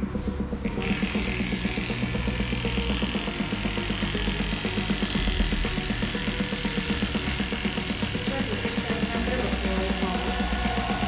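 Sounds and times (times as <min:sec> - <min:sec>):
background music: 0:00.0 - 0:11.0
electric dog clipper running: 0:00.7 - 0:11.0.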